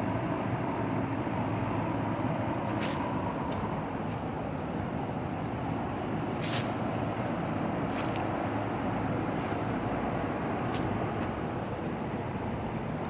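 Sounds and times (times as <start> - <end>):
air conditioner units humming: 0.0 - 13.0.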